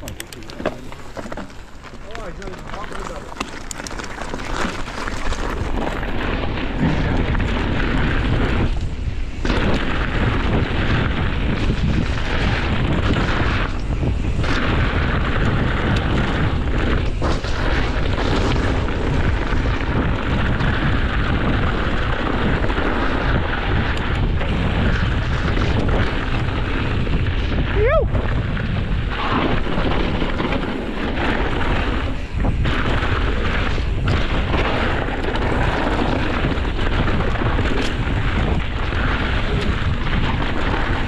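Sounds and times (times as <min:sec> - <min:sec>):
bike tyres rumbling on dirt: 0:00.0 - 0:41.0
wind buffeting microphone: 0:00.0 - 0:41.0.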